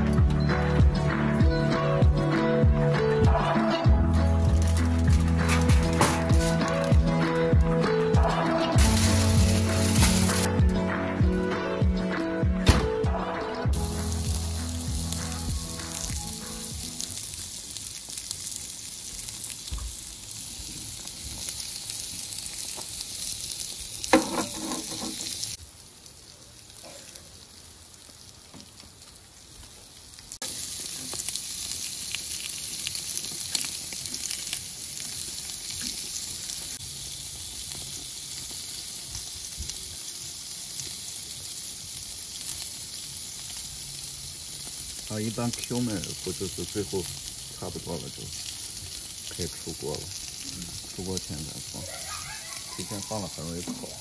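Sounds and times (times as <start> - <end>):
meat sizzling on a grill plate: 3.2 - 10.7, 13.0 - 54.0.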